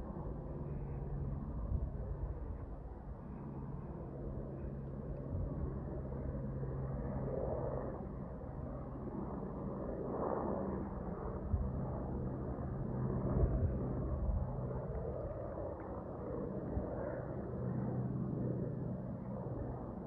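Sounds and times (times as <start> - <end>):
distant airliner rumble: 0.0 - 20.0.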